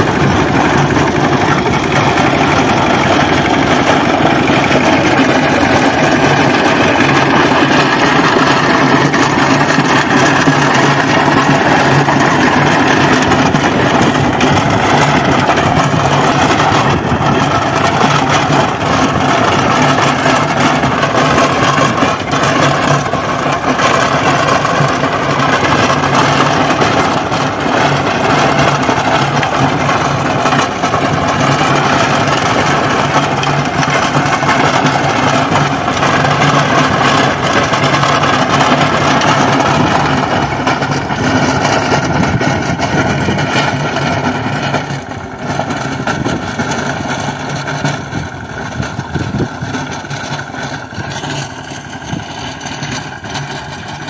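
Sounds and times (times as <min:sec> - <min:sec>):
rotavator tilling dry soil: 0:00.0 - 0:54.0
tractor diesel engine running: 0:00.0 - 0:54.0.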